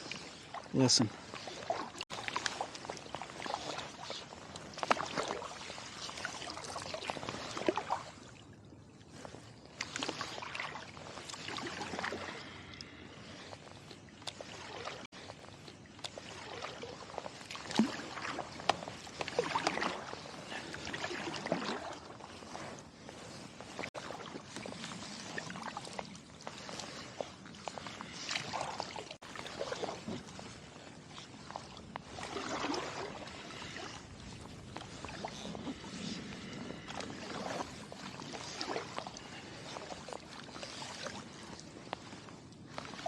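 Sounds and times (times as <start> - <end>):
paddle strokes splashing water: 0.0 - 43.0.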